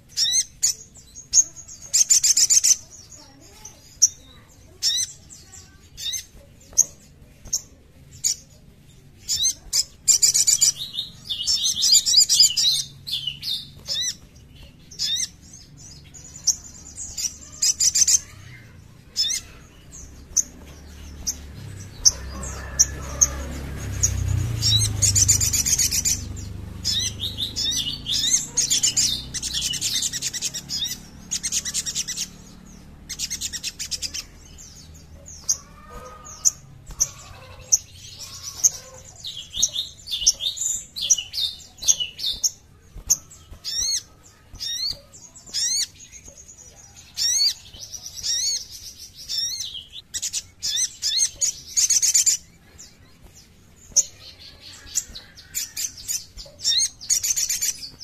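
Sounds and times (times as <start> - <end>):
bird calling high chips and twitters: 0.0 - 58.0.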